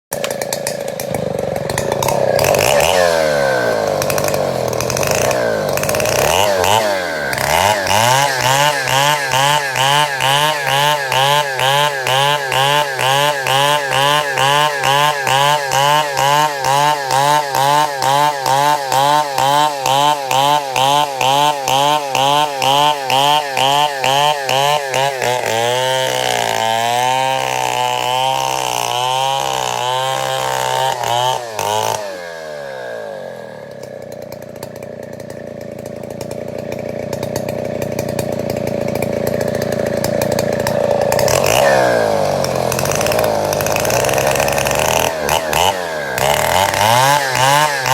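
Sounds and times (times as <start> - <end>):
chainsaw cutting wood: 0.1 - 47.9.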